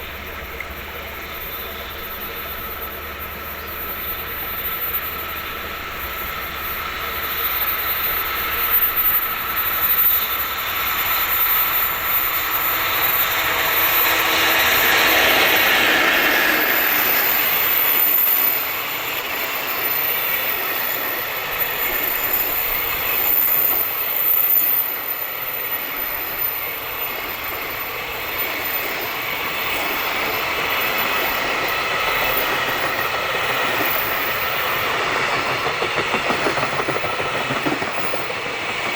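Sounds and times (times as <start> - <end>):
train wheels rattling on rails: 0.0 - 38.9.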